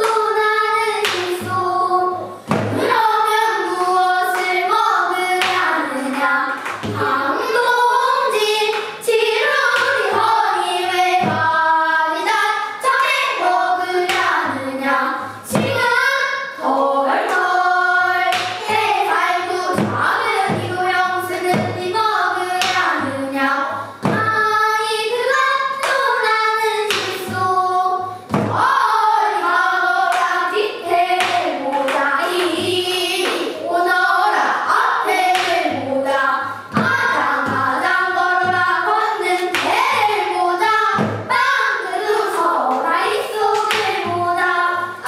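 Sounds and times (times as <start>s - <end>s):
children singing in unison: 0.0s - 45.0s
sharp drum strokes: 1.1s - 16.2s, 17.7s - 25.4s, 26.2s - 42.4s.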